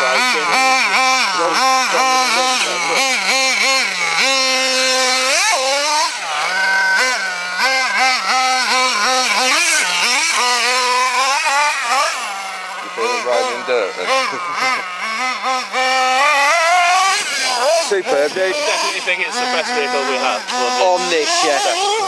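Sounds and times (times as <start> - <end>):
small nitro engine revving: 0.0 - 22.0.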